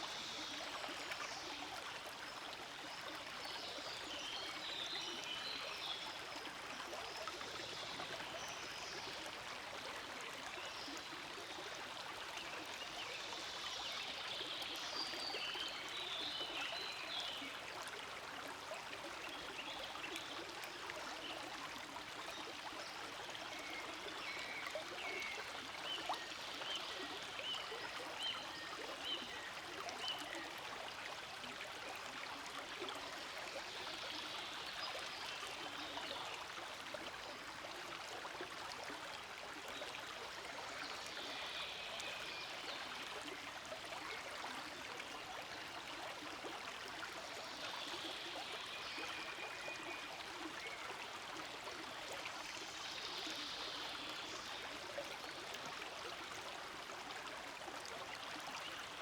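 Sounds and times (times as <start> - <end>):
stream babbling and trickling: 0.0 - 59.0.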